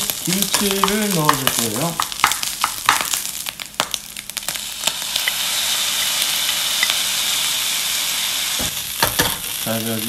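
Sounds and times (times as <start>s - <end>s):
rice sizzling in frying pan: 0.0s - 10.0s.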